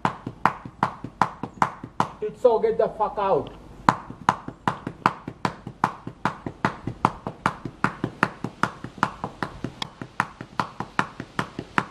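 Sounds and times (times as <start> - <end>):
rapid rhythmic sharp knocks: 0.0 - 2.4, 3.8 - 11.9.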